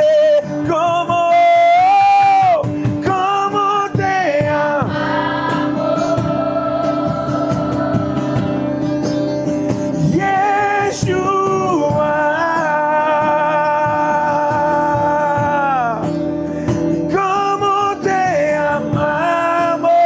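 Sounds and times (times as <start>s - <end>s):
instrumental backing: 2.3s - 19.9s.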